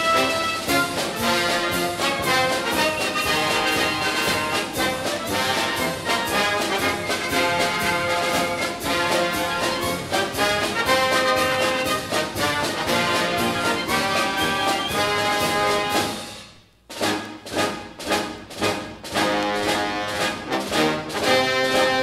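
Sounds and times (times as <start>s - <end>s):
orchestral music with brass: 0.0s - 22.0s.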